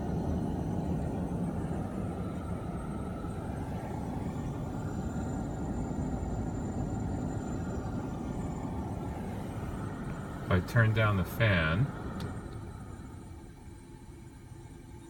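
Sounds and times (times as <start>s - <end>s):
car fan blowing: 0.0s - 15.0s.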